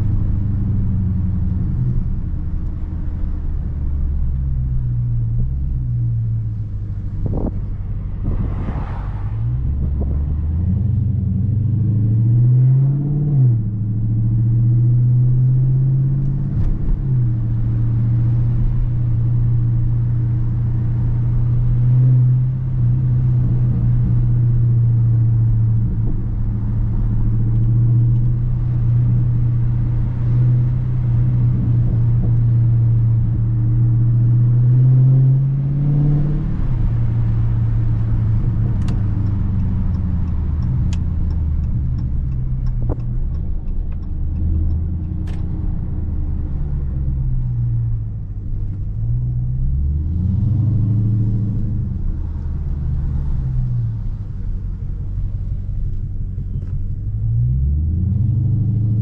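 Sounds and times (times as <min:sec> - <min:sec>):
car engine exhaust rumble: 0:00.0 - 0:59.0.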